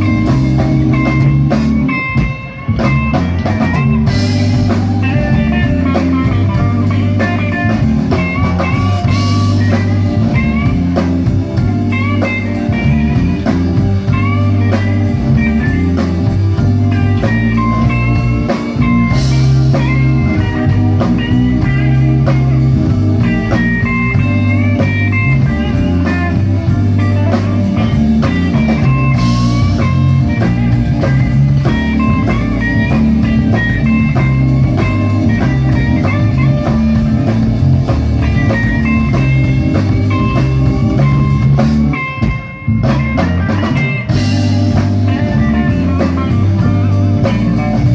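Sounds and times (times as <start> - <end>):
electric blues band playing: 0.0 - 47.9
lead electric guitar: 0.0 - 47.9.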